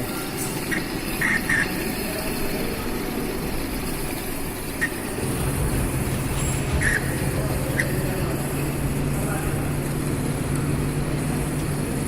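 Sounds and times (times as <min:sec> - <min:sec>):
drilling machine engine hum: 0:00.0 - 0:12.0.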